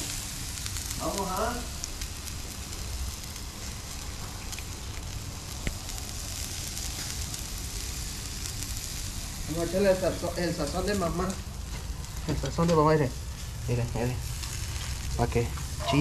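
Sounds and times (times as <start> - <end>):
crackling and popping coals: 0.0 - 16.0
meat sizzling on charcoal grill: 0.0 - 16.0.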